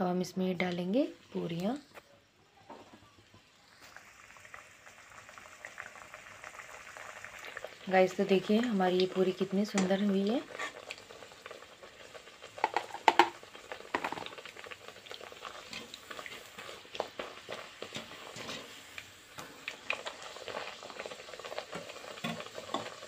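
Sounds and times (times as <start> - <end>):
oil sizzling and popping: 0.6 - 23.0.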